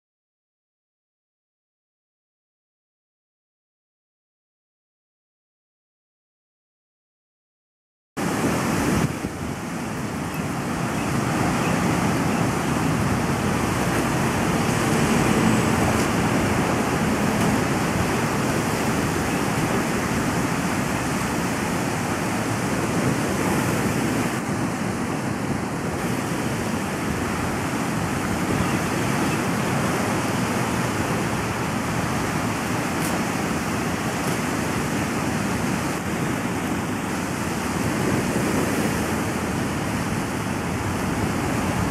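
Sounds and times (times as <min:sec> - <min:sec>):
waves washing against rocky shore: 0:08.2 - 0:41.9.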